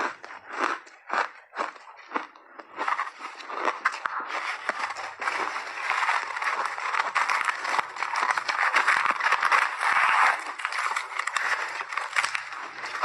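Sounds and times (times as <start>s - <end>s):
crushed ice crunching: 0.0s - 13.0s.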